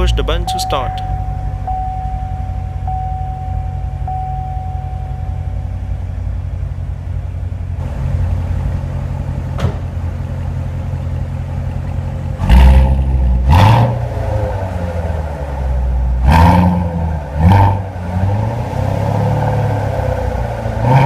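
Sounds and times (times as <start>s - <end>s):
car engine idling: 0.0s - 21.0s
engine revving: 0.0s - 21.0s.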